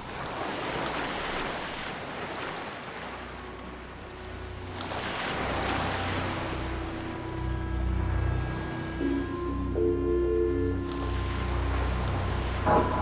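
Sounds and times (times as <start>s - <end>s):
ocean waves washing in: 0.0s - 13.0s.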